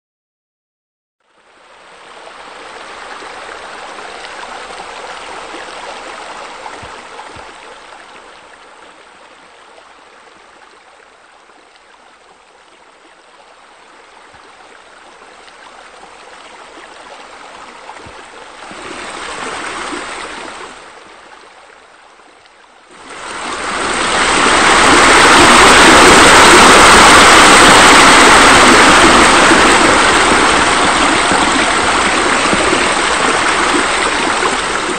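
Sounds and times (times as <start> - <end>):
water splashing and running: 2.0 - 34.9.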